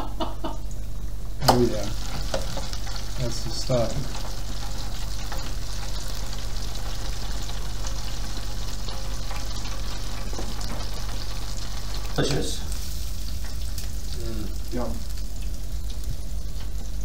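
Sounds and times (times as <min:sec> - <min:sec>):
food sizzling in deep fryer oil: 0:01.4 - 0:17.0.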